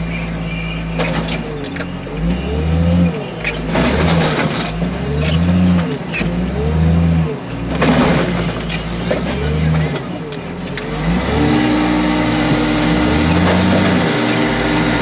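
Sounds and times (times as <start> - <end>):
hydraulic machine engine under load: 1.0 - 15.0.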